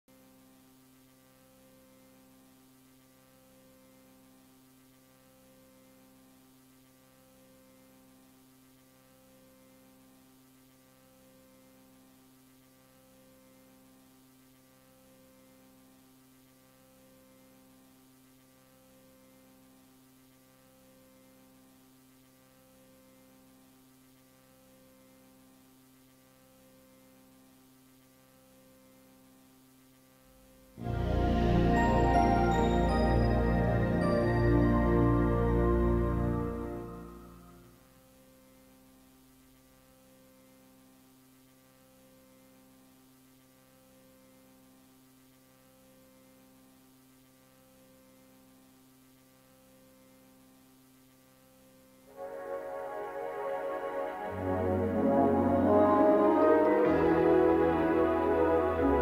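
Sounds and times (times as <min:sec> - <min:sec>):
faint electrical hum: 0:00.1 - 0:59.0.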